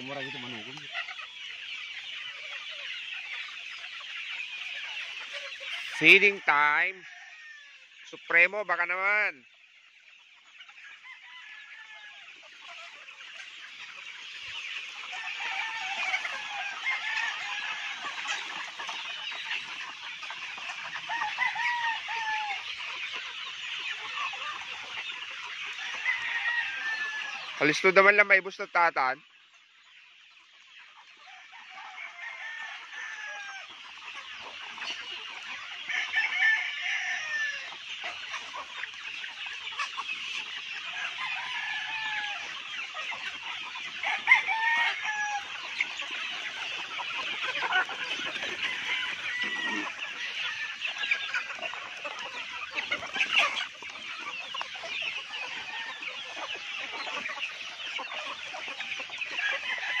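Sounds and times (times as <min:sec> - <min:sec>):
chickens clucking: 0:00.0 - 1:00.0.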